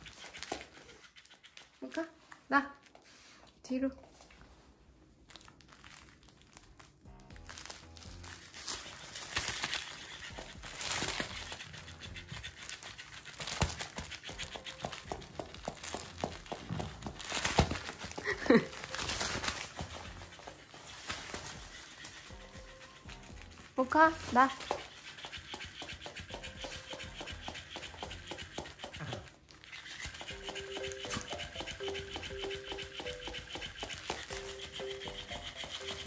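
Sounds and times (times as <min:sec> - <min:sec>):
toy fish tail slapping floor: 0:00.0 - 0:02.4, 0:08.0 - 0:36.0.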